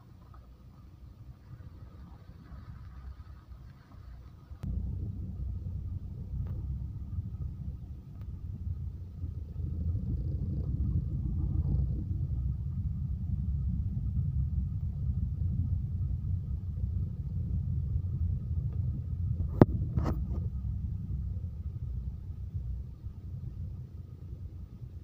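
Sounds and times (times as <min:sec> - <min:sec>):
car driving on rough road: 0:00.0 - 0:25.0.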